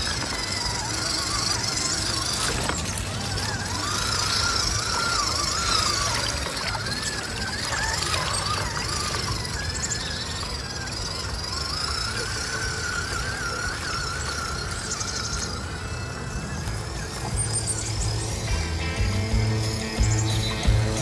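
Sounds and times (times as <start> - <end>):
rushing stream water: 0.0 - 21.0
toy truck motor whine: 0.0 - 21.0.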